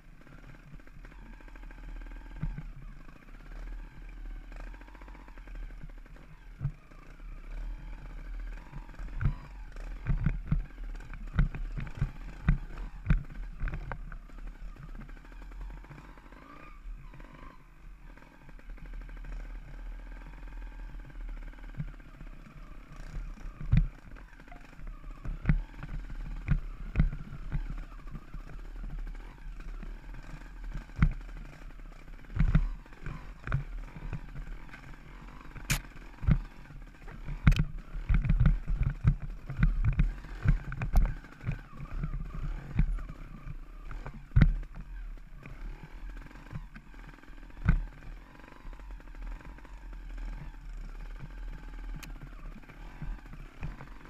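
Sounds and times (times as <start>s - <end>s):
low rumble of wind and rolling: 0.0s - 54.0s.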